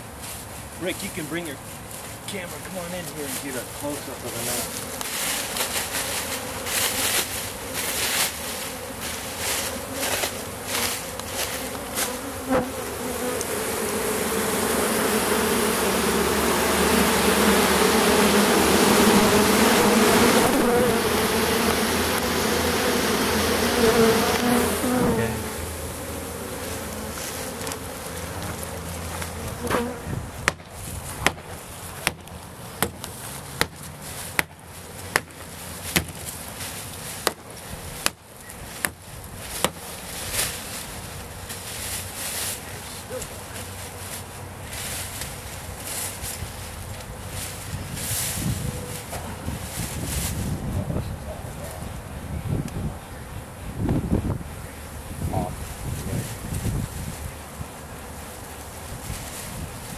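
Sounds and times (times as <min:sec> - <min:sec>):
honey bees buzzing: 0:00.8 - 0:59.9.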